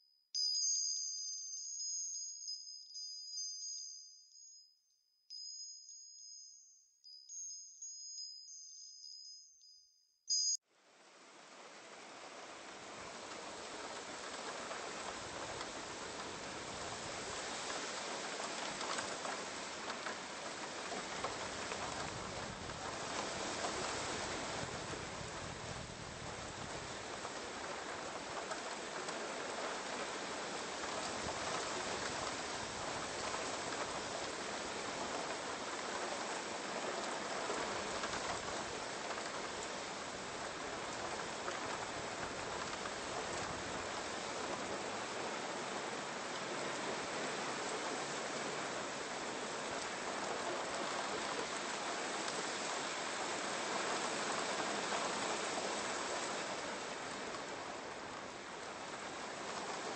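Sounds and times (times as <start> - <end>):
water rushing: 10.9 - 59.9.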